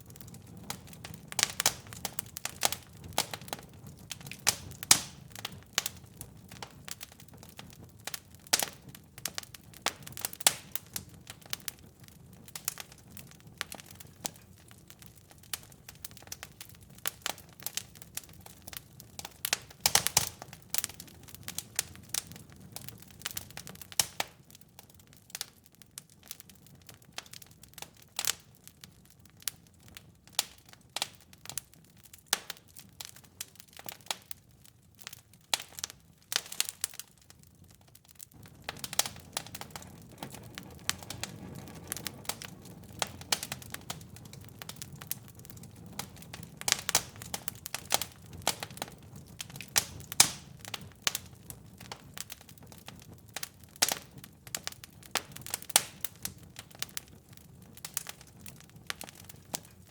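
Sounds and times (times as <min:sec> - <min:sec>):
fireplace fire crackling and popping: 0:00.0 - 0:59.9
low rumble of flame: 0:00.0 - 0:59.9.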